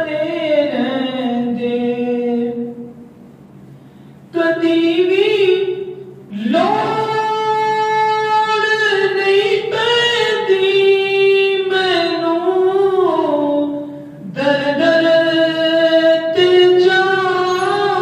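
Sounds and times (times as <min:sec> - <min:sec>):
man singing devotional song: 0:00.0 - 0:02.9, 0:04.3 - 0:18.0.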